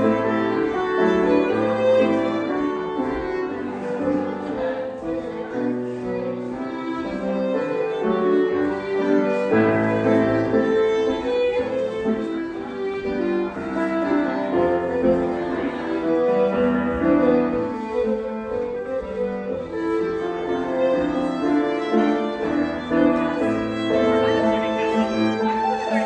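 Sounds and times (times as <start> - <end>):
fiddle playing dance tune: 0.0 - 26.0
piano accompaniment: 0.0 - 26.0.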